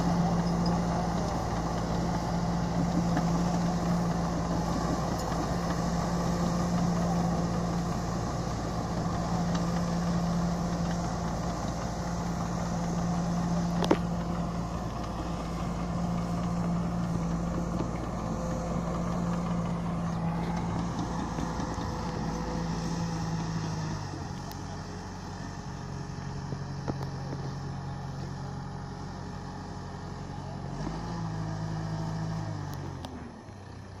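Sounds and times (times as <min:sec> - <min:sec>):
bulldozer diesel engine under load: 0:00.0 - 0:34.0.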